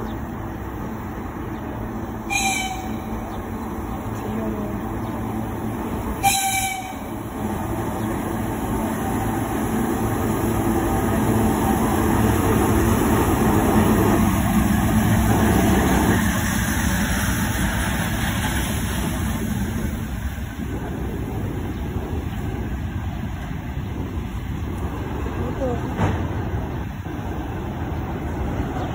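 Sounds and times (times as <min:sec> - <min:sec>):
diesel locomotive passing: 0:00.0 - 0:28.9.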